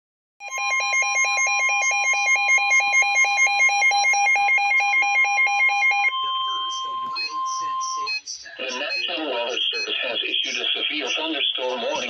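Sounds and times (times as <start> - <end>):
pulsing electronic alarm: 0.4 - 12.0.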